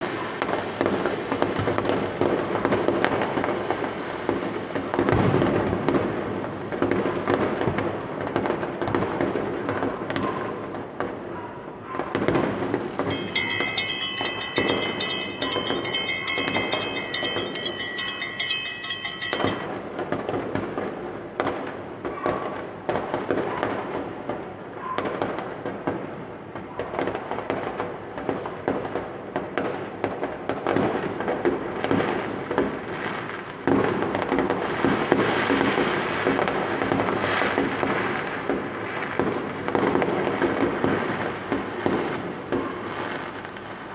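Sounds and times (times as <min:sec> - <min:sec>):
fireworks bangs and crackling: 0:00.0 - 0:11.3, 0:19.8 - 0:43.9.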